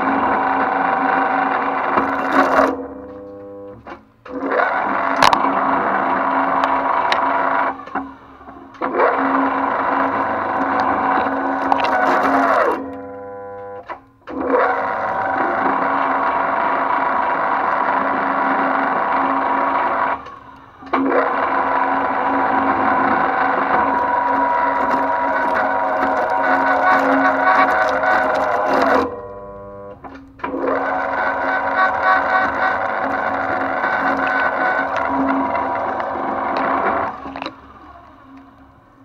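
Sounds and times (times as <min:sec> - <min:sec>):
shredder whining: 0:00.0 - 0:39.0.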